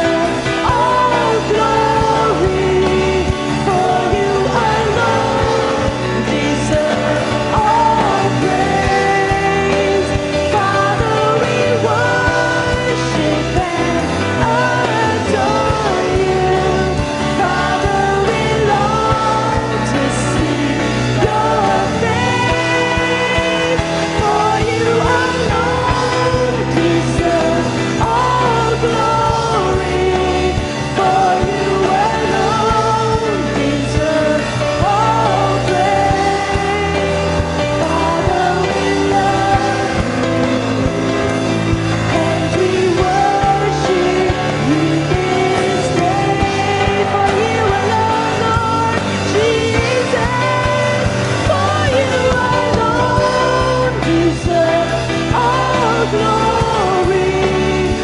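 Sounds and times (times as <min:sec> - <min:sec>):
bass and guitar accompaniment: 0:00.0 - 0:58.0
person singing: 0:00.0 - 0:58.0
worship band playing: 0:00.0 - 0:58.0.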